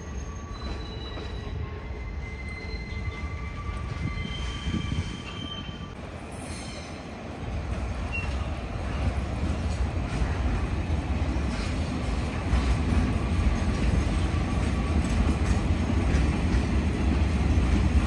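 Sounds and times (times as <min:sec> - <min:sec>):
train wheels squealing on rails: 0:00.0 - 0:10.6, 0:11.3 - 0:18.0
low rolling train rumble: 0:00.0 - 0:18.0.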